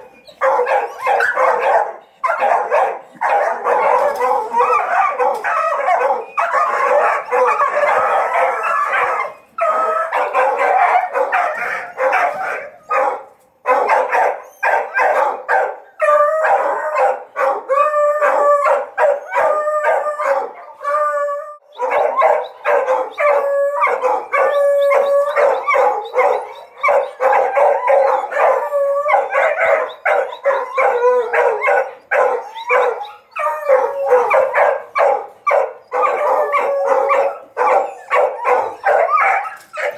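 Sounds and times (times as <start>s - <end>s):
dogs barking: 0.0s - 21.0s, 21.7s - 39.9s
dogs howling: 0.0s - 39.9s.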